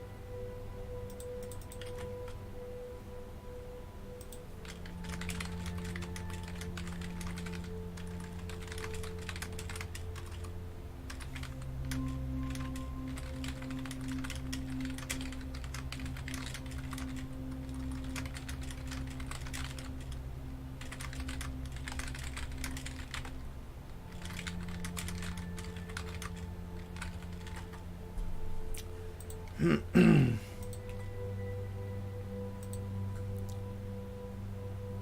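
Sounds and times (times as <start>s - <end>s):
low background drone: 0.0s - 35.0s.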